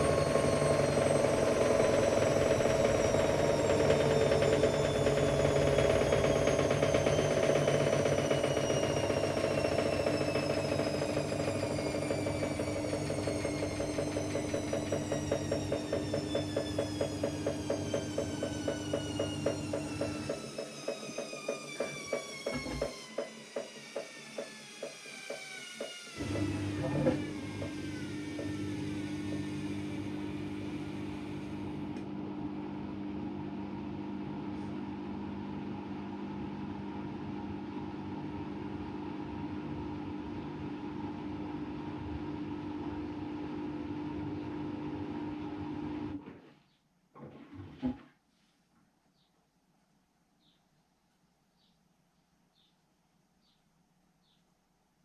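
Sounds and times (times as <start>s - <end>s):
washer whine falling in pitch: 0.0s - 46.3s.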